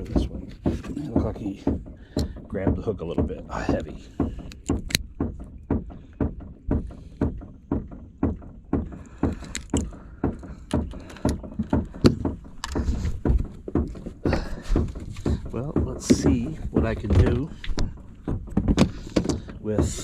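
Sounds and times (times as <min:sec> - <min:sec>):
water slapping boat hull: 0:00.0 - 0:20.0.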